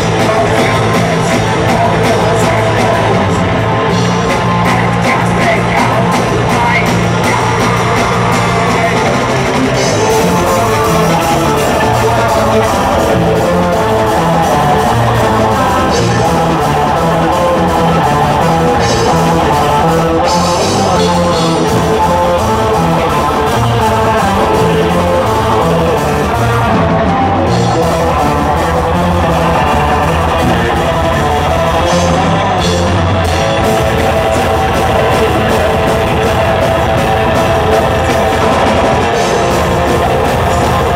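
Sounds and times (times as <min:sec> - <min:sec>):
metal band playing: 0:00.0 - 0:40.9
singer's vocals: 0:00.0 - 0:40.9.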